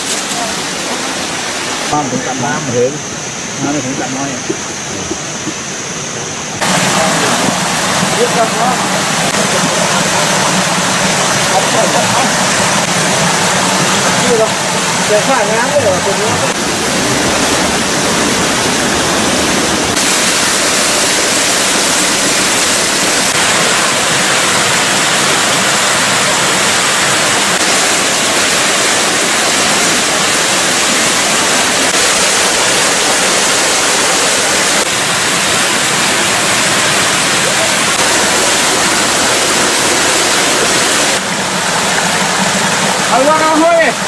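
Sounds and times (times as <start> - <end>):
small waterfall rushing: 0.0 - 44.0.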